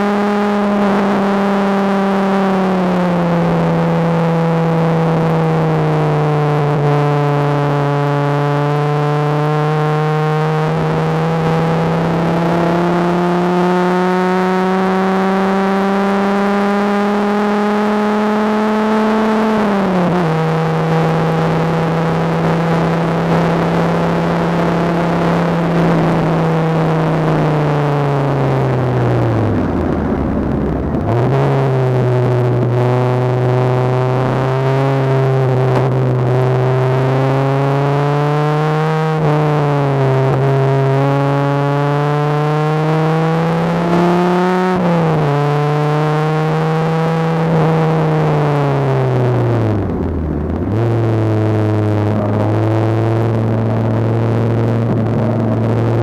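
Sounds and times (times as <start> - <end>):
engine at full throttle: 0.0 - 56.0.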